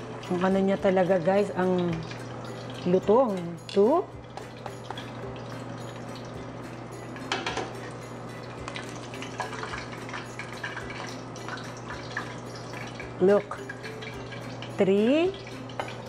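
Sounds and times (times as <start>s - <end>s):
hot oil bubbling and crackling: 0.0s - 16.0s.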